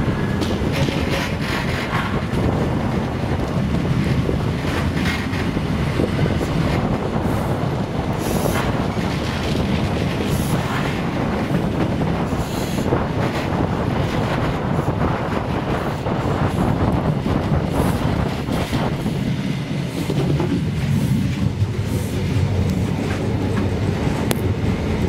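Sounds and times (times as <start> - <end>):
train wheels rumbling on rails: 0.0 - 25.0
wind noise: 0.0 - 25.0.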